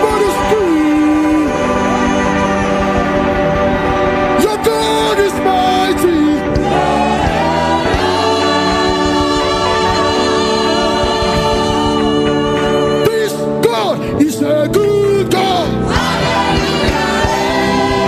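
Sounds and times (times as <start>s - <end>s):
choir singing gospel music: 0.0s - 18.0s.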